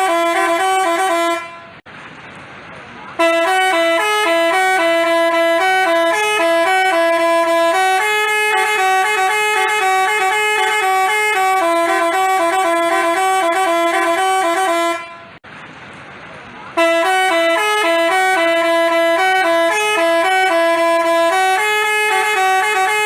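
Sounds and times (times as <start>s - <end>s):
multi-tone bus horn melody: 0.0s - 1.8s, 3.1s - 15.4s, 16.7s - 23.0s.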